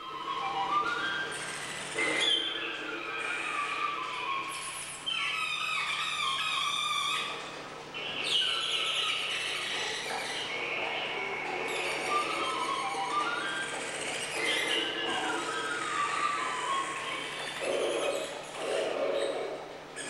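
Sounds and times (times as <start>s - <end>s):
electronic squealing feedback tones: 0.0s - 7.4s, 8.0s - 20.0s.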